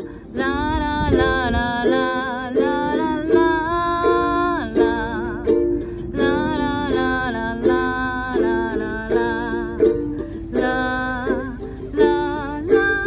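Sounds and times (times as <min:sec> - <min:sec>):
ukuleles strummed: 0:00.0 - 0:13.0
woman singing slow melody: 0:00.0 - 0:13.0.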